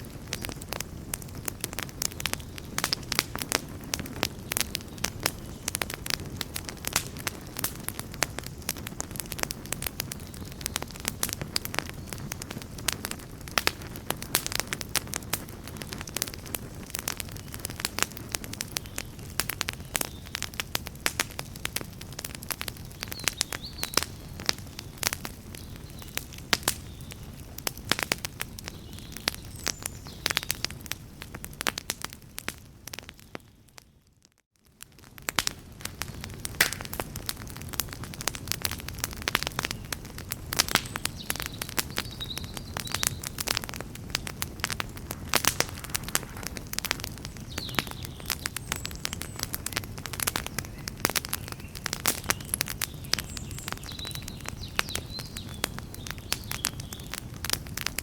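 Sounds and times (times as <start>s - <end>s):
low rumble of flame: 0.0s - 33.7s, 34.6s - 58.0s
campfire crackling and popping: 0.0s - 58.0s.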